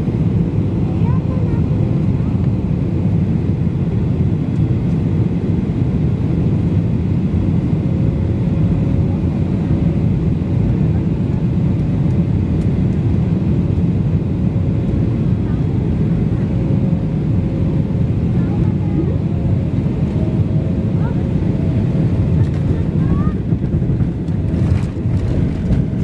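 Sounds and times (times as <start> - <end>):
aircraft cabin engine and airflow rush: 0.0 - 26.0.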